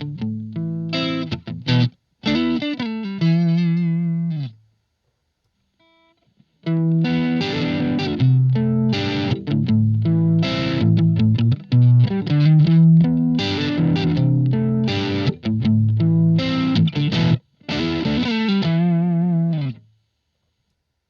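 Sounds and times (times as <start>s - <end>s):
electric guitar playing: 0.0s - 4.6s, 5.8s - 19.8s.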